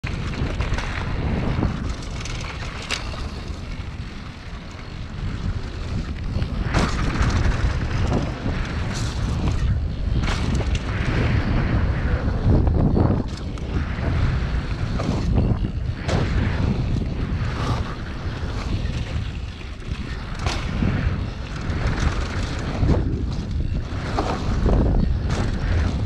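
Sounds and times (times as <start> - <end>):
bike rattling clacks: 0.0 - 26.0
bike tyres crunching over gravel: 0.0 - 26.0
wind rumbling on microphone: 0.0 - 26.0.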